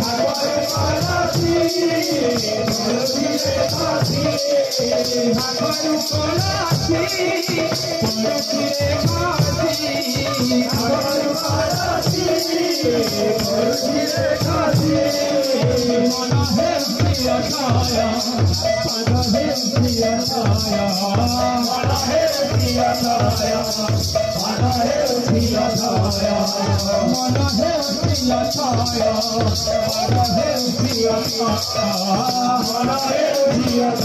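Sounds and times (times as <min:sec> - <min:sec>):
drum beating fast: 0:00.0 - 0:34.0
hand cymbals ringing: 0:00.0 - 0:34.0.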